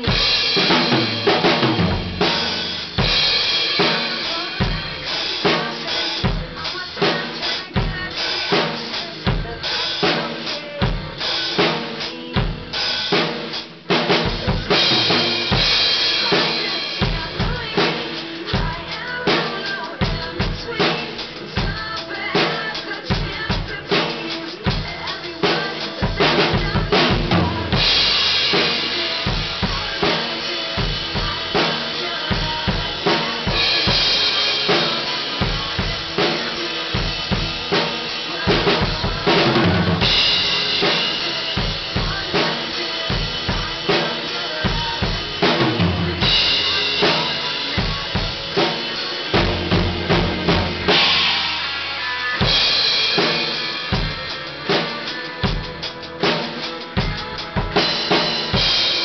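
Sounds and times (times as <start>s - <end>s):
acoustic drum kit beat: 0.0s - 59.0s.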